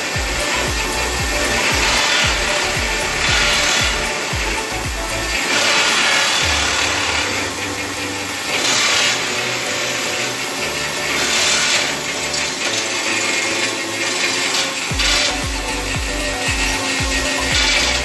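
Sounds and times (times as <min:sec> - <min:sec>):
hydraulic rock drill hammering: 0:00.0 - 0:18.0.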